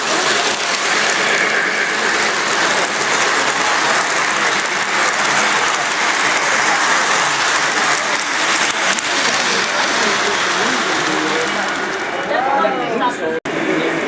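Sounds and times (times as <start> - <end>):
model train wheels rattling on rail: 0.0 - 12.7.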